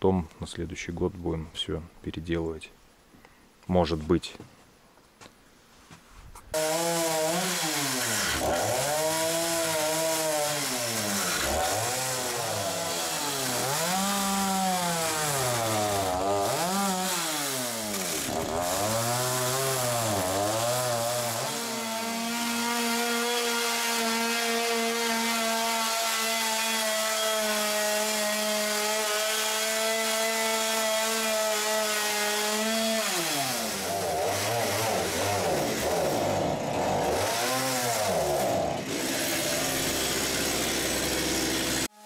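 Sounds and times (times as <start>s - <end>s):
chainsaw cutting wood: 6.5s - 42.0s.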